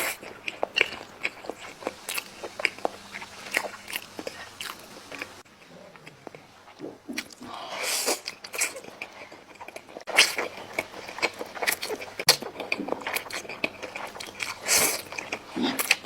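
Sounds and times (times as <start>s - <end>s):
chewing and biting: 0.0s - 7.5s, 8.1s - 16.0s.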